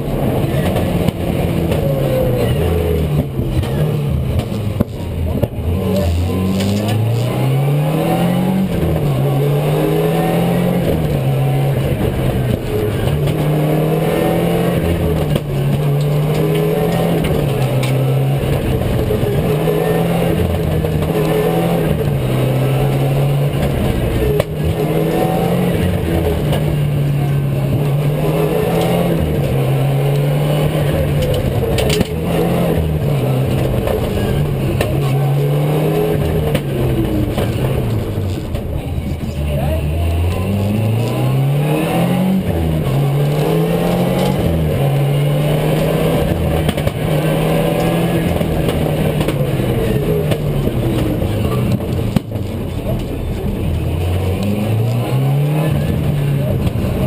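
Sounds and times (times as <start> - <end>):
rally car engine revving: 0.0 - 57.0
road and tyre noise: 0.0 - 57.0.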